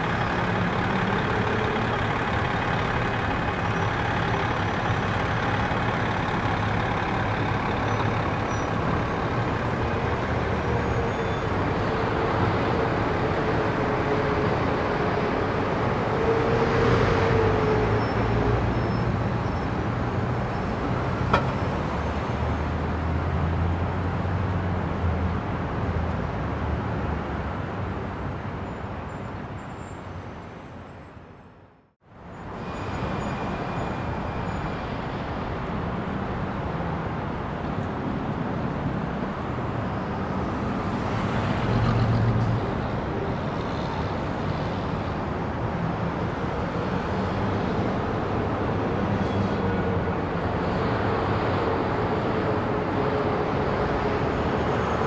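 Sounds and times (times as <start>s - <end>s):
heavy traffic engine rumble: 0.0s - 55.0s.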